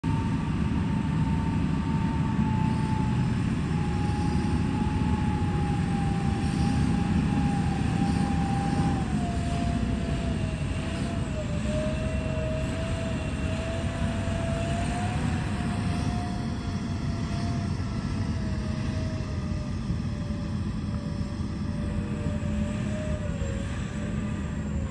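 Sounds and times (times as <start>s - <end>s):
dump truck engine rumble: 0.0s - 24.9s
thin whine: 0.0s - 24.9s.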